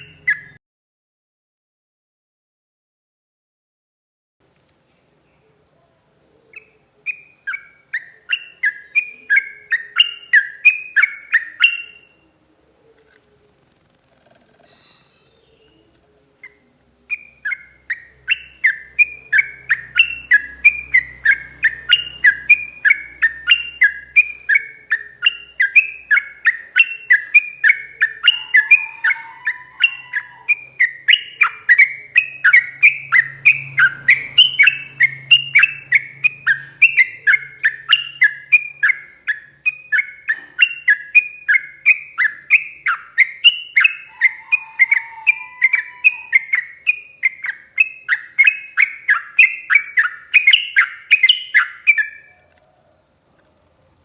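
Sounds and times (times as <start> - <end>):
bird singing whistled notes: 0.0 - 0.6, 6.6 - 12.2, 14.6 - 15.8, 16.5 - 52.5.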